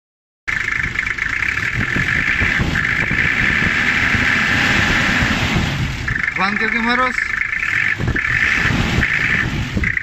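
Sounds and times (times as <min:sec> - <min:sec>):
diesel engine idling: 0:00.5 - 0:10.0
high-pitched whine: 0:00.5 - 0:10.0.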